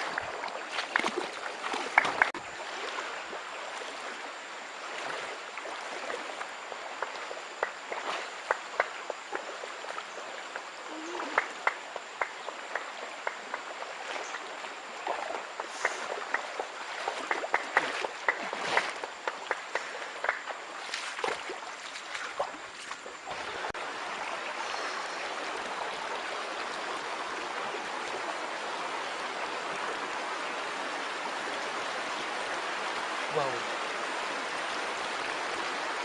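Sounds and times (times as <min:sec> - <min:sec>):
stream running over rocks: 0:00.0 - 0:36.0.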